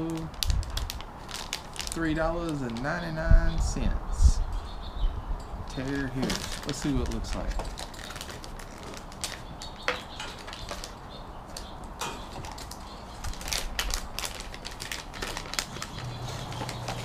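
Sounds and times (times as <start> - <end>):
plastic bag crinkling: 0.0 - 3.0, 5.8 - 17.0.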